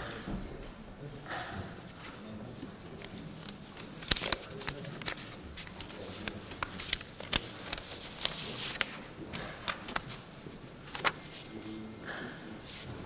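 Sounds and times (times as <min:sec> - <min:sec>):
room murmur: 0:00.0 - 0:13.0.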